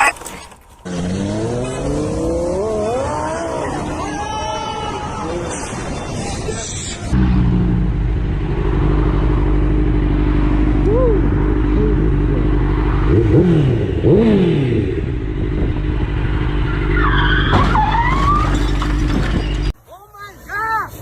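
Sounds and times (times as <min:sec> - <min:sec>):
vehicle engine droning: 0:00.2 - 0:19.8.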